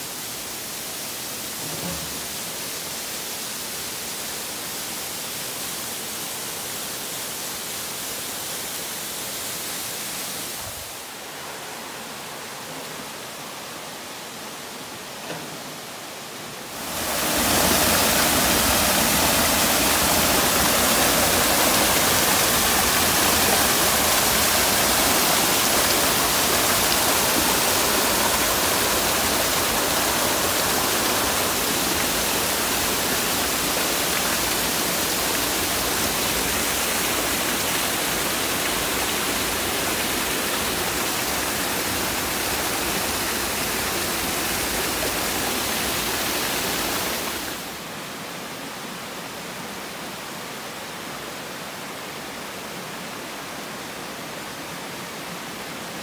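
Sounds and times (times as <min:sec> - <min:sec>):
water rushing over falls: 0:00.0 - 0:56.0.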